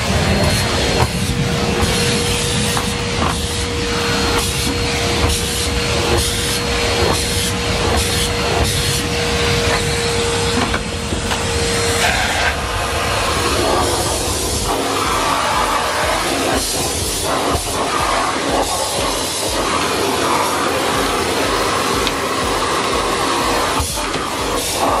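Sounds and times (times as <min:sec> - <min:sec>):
vacuum cleaner whine: 0:00.0 - 0:25.0
vacuum nozzle on carpet: 0:00.0 - 0:25.0.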